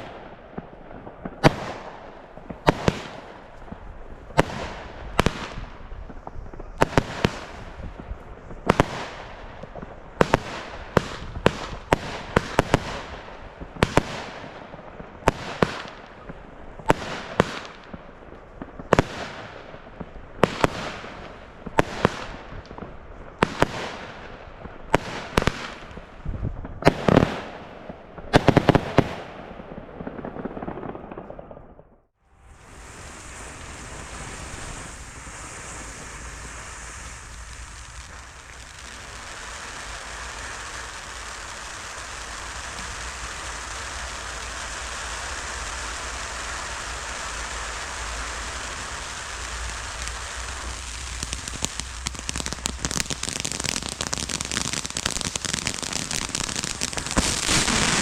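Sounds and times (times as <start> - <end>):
firework bangs with hiss: 0.0 - 31.3, 32.3 - 58.0.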